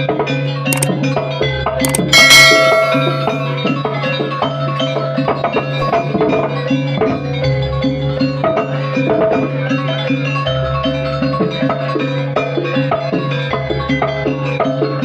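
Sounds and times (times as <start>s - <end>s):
drums: 1.8s - 15.0s.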